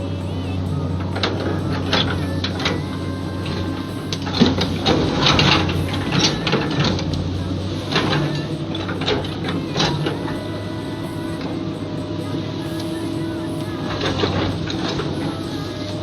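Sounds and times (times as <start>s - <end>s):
excavator arm and bucket clatter: 0.0s - 16.0s
excavator diesel engine running: 0.0s - 16.0s.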